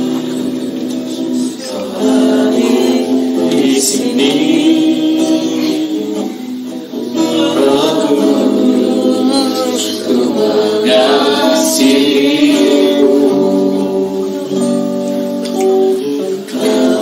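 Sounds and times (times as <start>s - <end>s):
person singing: 0.0s - 17.0s
strummed acoustic guitar: 0.0s - 17.0s.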